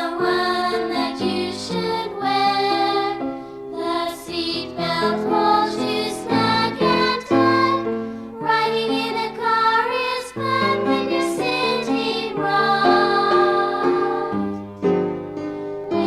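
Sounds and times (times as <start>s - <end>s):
children's song melody: 0.0s - 16.0s.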